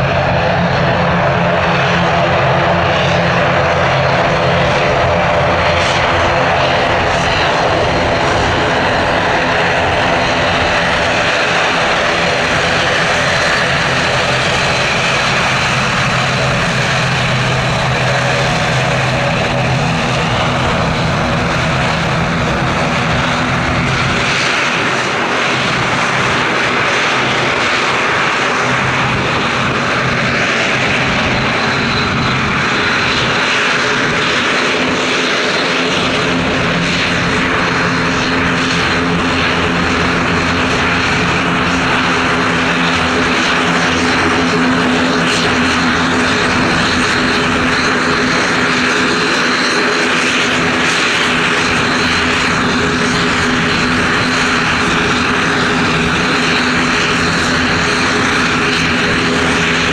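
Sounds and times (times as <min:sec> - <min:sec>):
turboprop propeller hum: 0:00.0 - 0:59.9.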